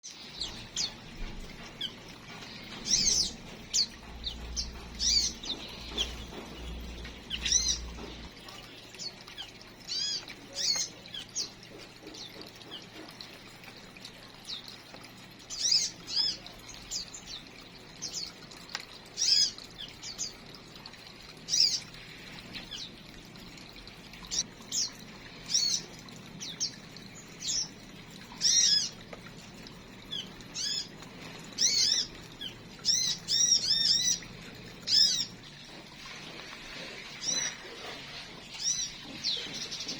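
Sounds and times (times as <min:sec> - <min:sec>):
small birds chirping: 0:00.0 - 0:13.1, 0:15.4 - 0:20.7, 0:21.4 - 0:23.1, 0:24.2 - 0:29.1, 0:30.1 - 0:39.9.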